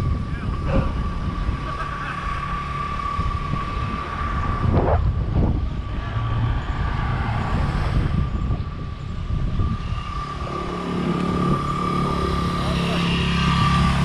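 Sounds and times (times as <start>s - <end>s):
freeway traffic rumble: 0.0s - 14.0s
high tyre whine: 0.0s - 14.0s.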